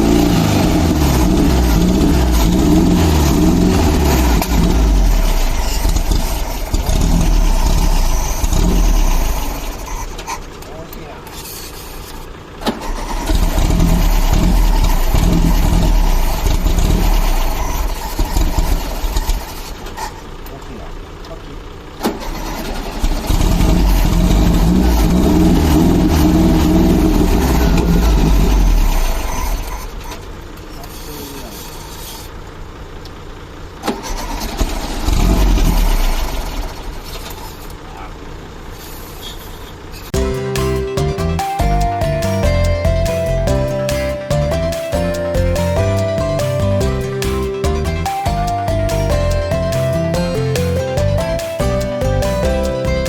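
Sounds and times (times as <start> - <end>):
car engine sputtering: 0.0 - 53.0.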